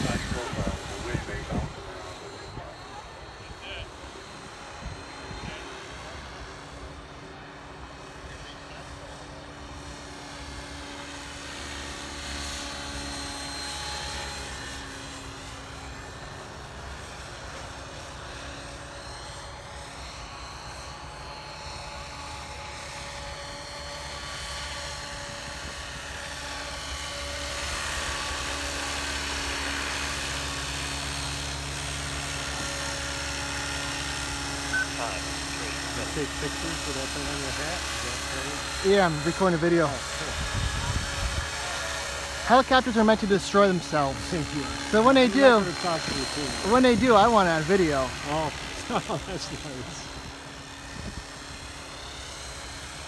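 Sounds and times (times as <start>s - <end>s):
model helicopter motor whine: 0.0s - 53.0s.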